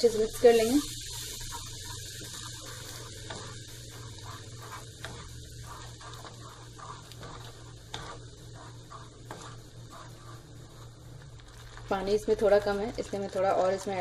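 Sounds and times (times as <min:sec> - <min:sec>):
gravy hissing in a pan: 0:00.0 - 0:14.0
wooden spatula stirring: 0:00.0 - 0:14.0.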